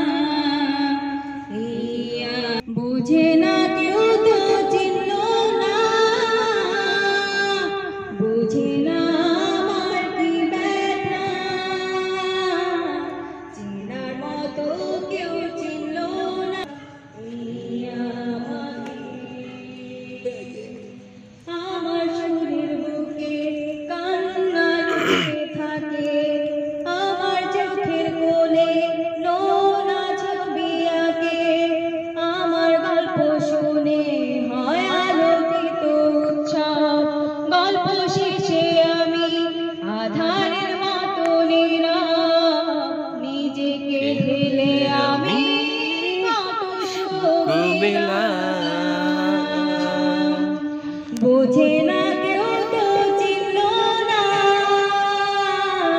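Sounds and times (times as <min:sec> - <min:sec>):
woman singing into microphone: 0:00.0 - 0:55.9.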